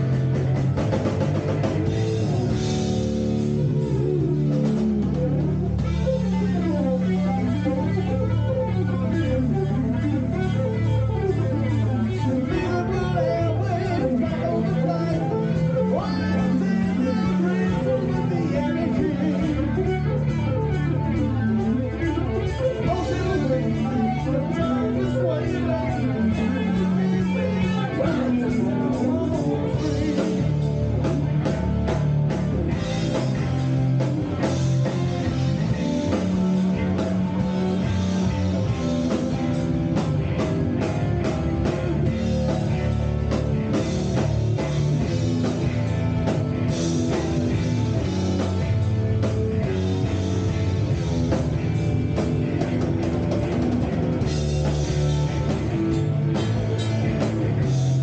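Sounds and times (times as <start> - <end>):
drum kit beat: 0.0 - 58.0
electric guitars: 0.0 - 58.0.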